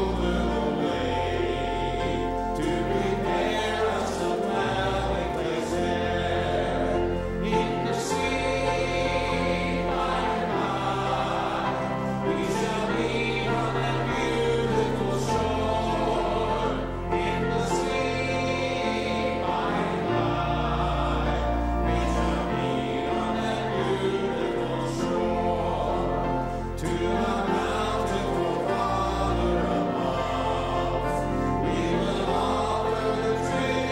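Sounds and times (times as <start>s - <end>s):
choir singing: 0.0s - 33.9s
instrumental accompaniment: 0.0s - 33.9s.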